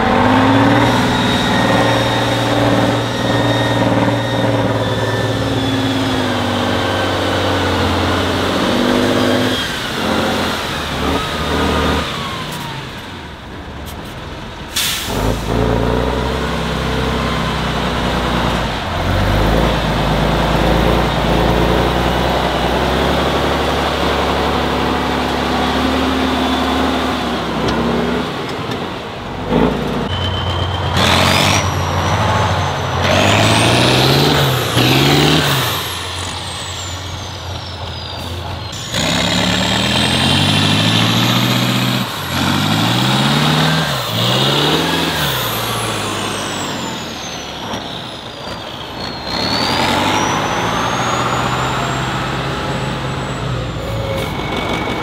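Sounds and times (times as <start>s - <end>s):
high engine whistle: 0.0s - 13.3s, 14.7s - 28.7s, 29.6s - 55.0s
diesel truck engines revving: 0.0s - 55.0s.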